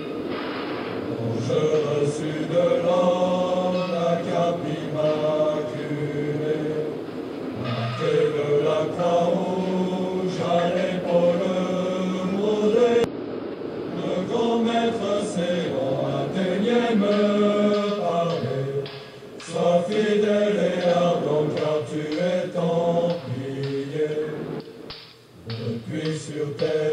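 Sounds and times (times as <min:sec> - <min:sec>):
choir chanting slow melody: 0:00.9 - 0:26.9.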